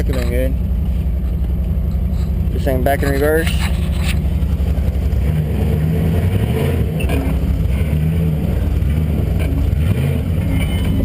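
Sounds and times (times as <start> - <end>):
vehicle engine deep exhaust: 0.0 - 11.0.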